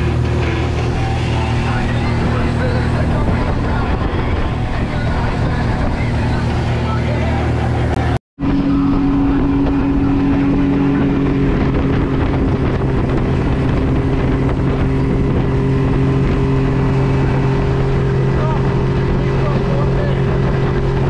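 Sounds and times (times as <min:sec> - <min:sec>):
outboard motor running: 0:00.0 - 0:21.0
wind rushing over microphone: 0:00.0 - 0:21.0.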